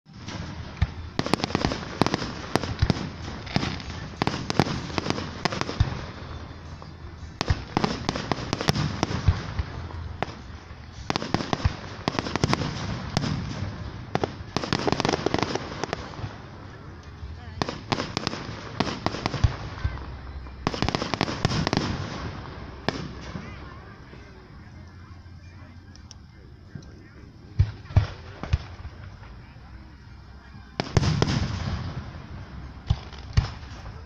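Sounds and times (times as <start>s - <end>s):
fireworks bangs and crackles: 0.1s - 34.0s.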